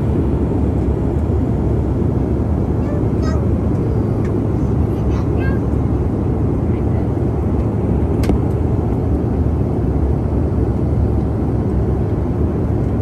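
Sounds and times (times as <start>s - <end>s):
airplane cabin noise: 0.0s - 13.0s.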